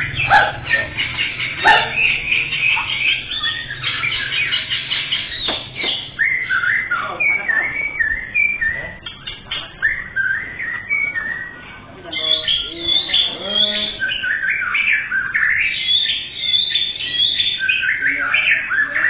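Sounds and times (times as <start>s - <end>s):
songbirds chirping: 0.0s - 19.0s
whistled bird phrases: 0.0s - 19.0s.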